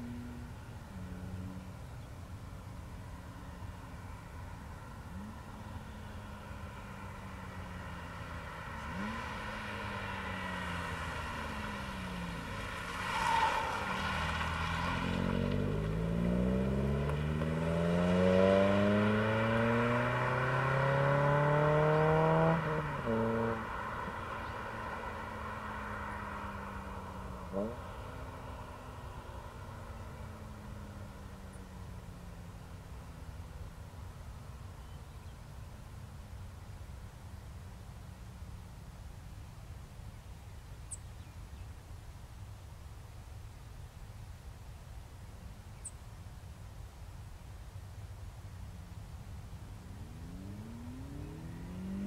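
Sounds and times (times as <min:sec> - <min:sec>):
car engine idling and revving: 0:00.0 - 0:39.9, 0:48.5 - 0:52.0.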